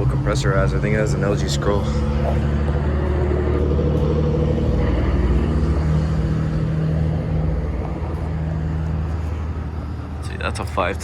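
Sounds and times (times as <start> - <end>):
compressor humming: 0.0 - 10.2.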